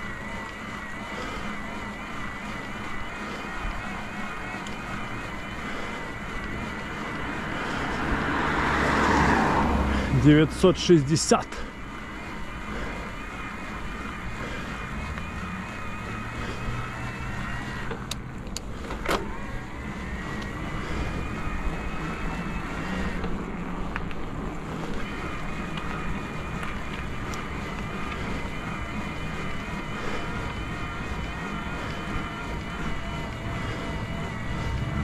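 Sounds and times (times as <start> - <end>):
electric bike motor whining: 0.0 - 35.0.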